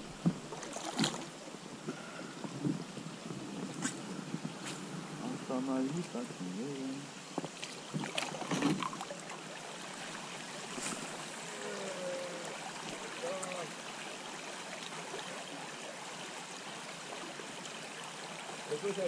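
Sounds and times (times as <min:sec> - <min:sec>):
water running over stones: 0:00.0 - 0:19.0.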